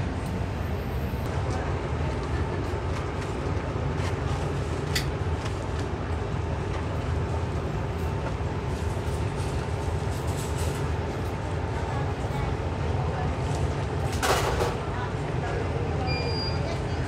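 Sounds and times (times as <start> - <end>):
low kitchen rumble: 0.0 - 17.0.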